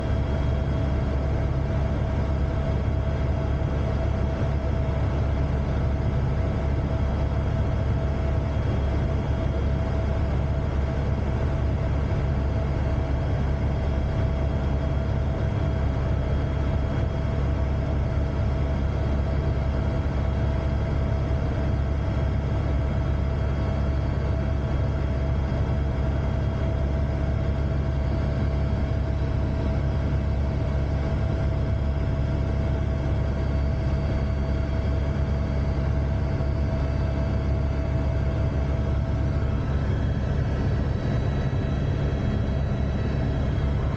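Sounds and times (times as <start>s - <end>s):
constant turbine whine: 0.0s - 43.9s
helicopter rotor and turbine drone: 0.0s - 43.9s.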